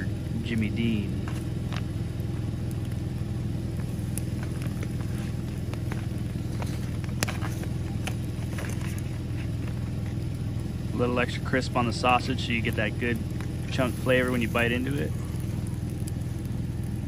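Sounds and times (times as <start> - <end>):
campfire crackles: 0.0 - 17.0
engine humming low: 0.0 - 17.0.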